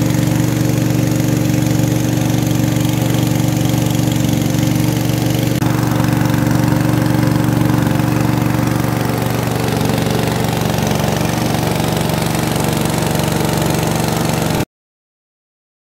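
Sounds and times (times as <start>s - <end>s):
rice milling machine humming: 0.0s - 14.7s.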